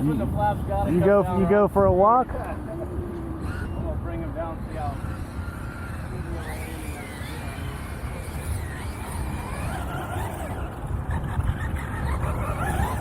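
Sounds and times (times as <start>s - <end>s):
faint distant voices: 0.0s - 13.0s
wind buffeting microphone: 0.0s - 13.0s.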